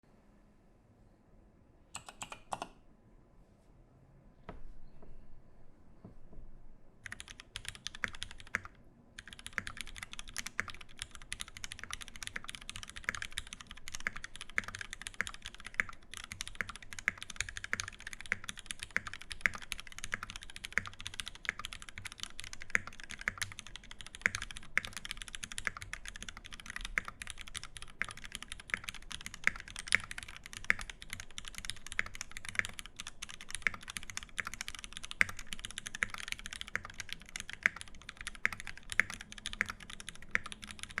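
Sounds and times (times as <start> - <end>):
fast typing on mechanical keyboard: 2.0 - 2.7, 7.0 - 41.0.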